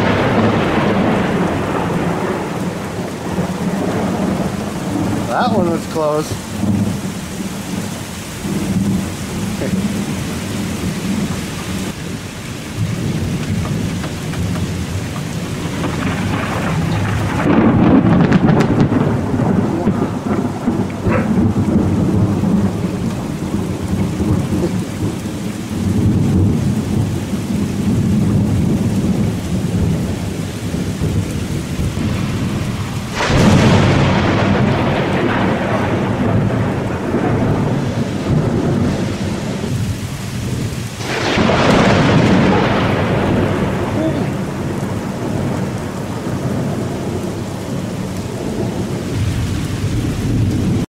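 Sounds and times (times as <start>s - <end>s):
heavy rain: 0.0s - 50.9s
thunder rumbling: 0.0s - 50.9s.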